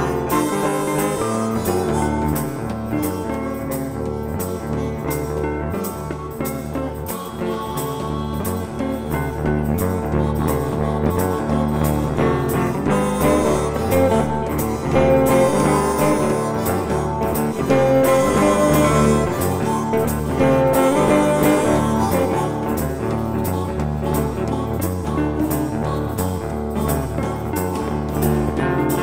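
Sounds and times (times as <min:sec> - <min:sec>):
blues-rock guitar music: 0:00.0 - 0:29.0.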